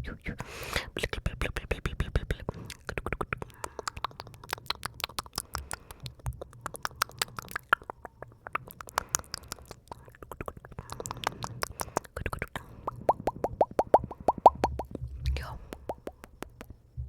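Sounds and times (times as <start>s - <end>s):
wet mouth clicks and smacks: 0.3s - 16.8s.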